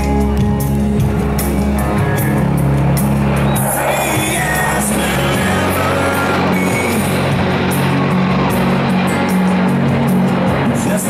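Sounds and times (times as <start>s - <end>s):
rock song over loudspeakers: 0.0s - 11.0s.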